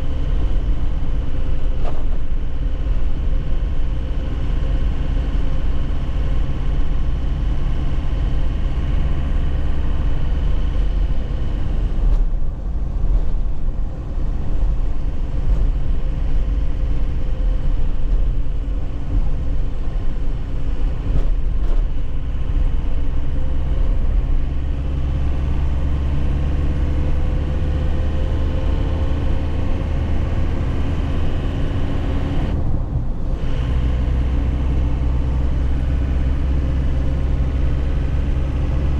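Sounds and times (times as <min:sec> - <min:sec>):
diesel engine running: 0:00.0 - 0:38.9
low road rumble: 0:00.0 - 0:38.9.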